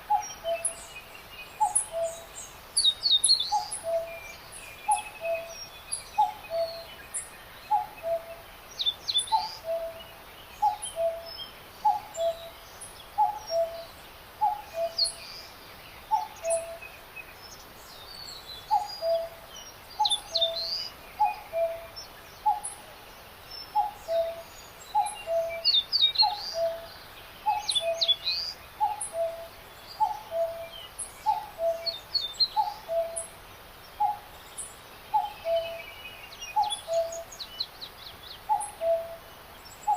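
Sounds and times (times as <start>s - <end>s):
birds chirping and trilling: 0.0s - 39.9s
faint hiss: 0.0s - 39.9s.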